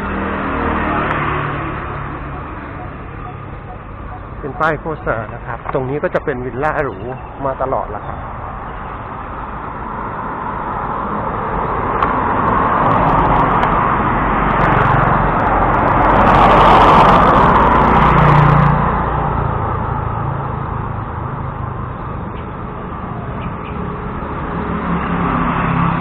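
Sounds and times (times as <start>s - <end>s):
motorcycle passing: 0.0s - 26.0s
road noise: 0.0s - 26.0s.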